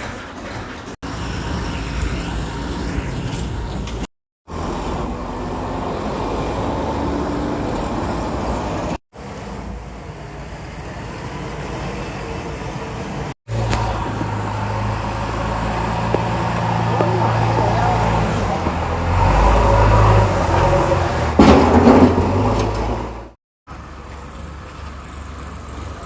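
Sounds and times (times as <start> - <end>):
heavy machine engine running: 0.0 - 26.0.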